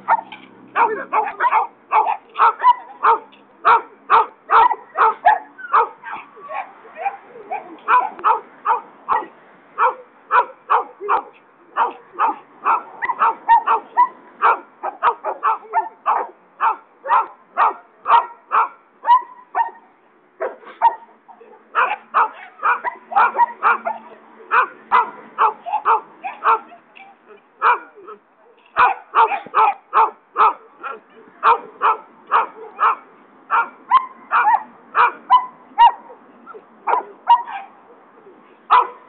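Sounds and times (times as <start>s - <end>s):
dog barking: 0.0s - 19.8s, 20.4s - 21.0s, 21.8s - 26.8s, 27.6s - 28.1s, 28.8s - 36.1s, 36.9s - 37.7s, 38.7s - 39.0s.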